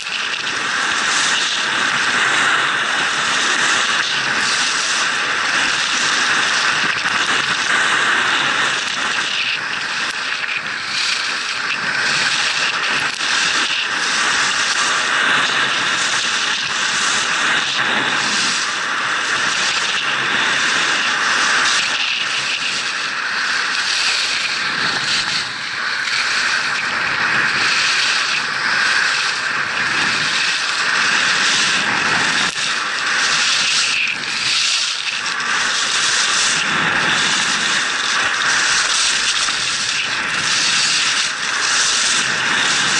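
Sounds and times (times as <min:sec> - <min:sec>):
skis scraping over snow: 0:00.0 - 0:42.9.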